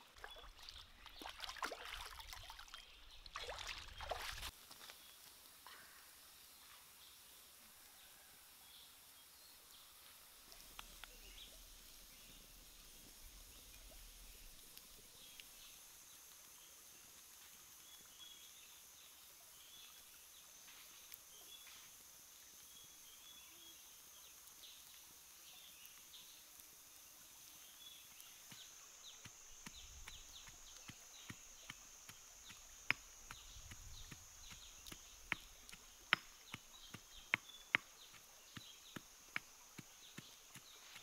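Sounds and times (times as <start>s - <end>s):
steady high hiss: 4.5s - 41.0s.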